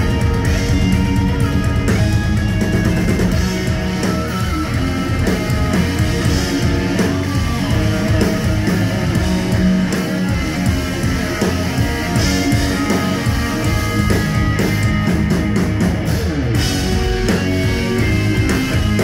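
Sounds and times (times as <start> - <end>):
bass guitar: 0.0 - 19.0
drum kit: 0.0 - 19.0
electric guitar: 0.0 - 19.0.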